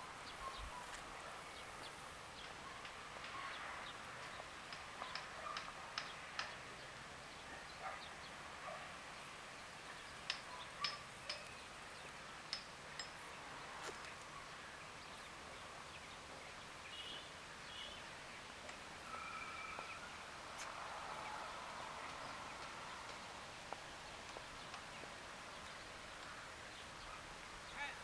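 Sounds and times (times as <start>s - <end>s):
faint outdoor ambience: 0.0s - 28.0s.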